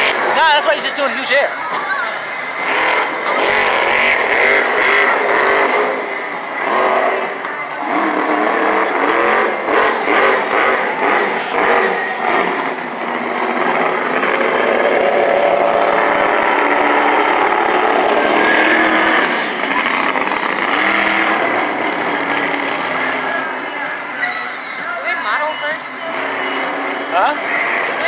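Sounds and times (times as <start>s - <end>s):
stadium background noise: 0.0s - 28.0s
truck engine revving: 0.0s - 28.0s.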